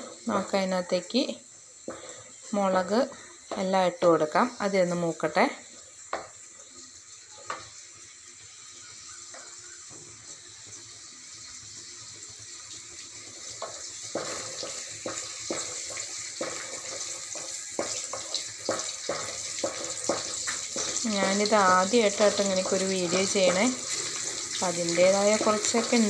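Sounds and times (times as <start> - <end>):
sizzling in hot oil: 0.0 - 26.0.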